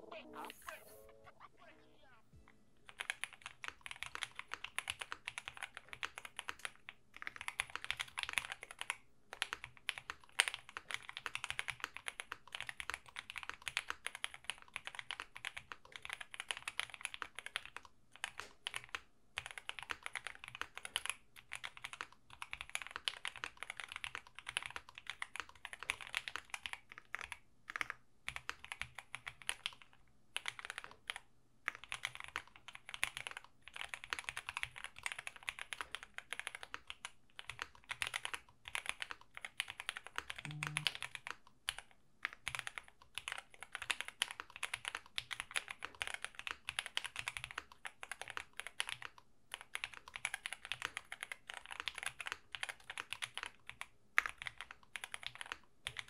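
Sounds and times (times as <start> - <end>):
mechanical keyboard typing: 2.9 - 56.0.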